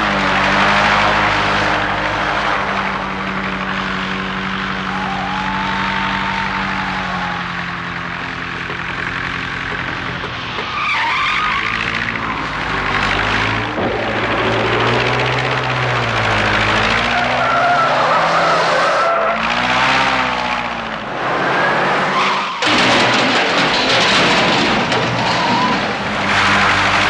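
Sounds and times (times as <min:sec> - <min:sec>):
tyres skidding: 0:00.0 - 0:27.0.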